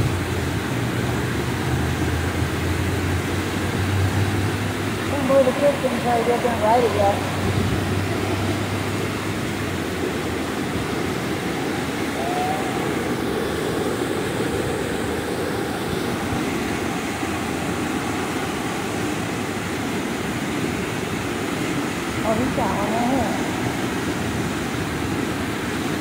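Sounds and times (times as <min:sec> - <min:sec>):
water rushing over a dam: 0:00.0 - 0:26.0.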